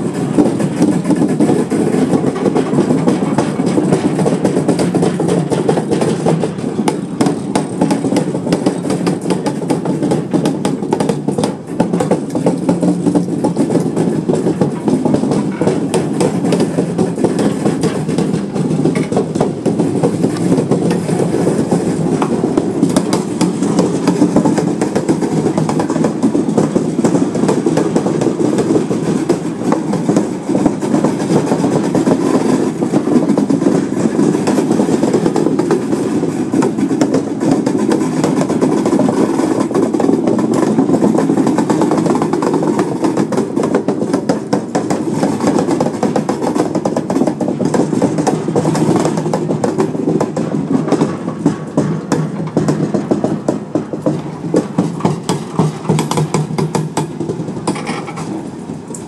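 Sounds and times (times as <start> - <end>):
train wheels rumbling on rails: 0.0 - 59.0
wheels clacking over rail joints: 0.0 - 59.0.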